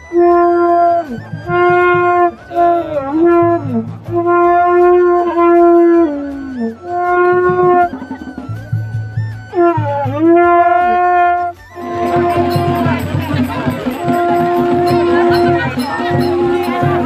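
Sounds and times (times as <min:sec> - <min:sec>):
long horns blowing held notes: 0:00.0 - 0:08.9, 0:09.5 - 0:17.0.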